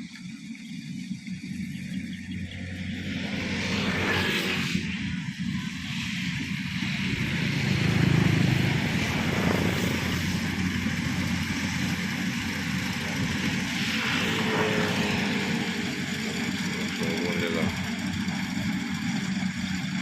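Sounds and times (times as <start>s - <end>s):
harvester engine drone: 0.0s - 20.0s.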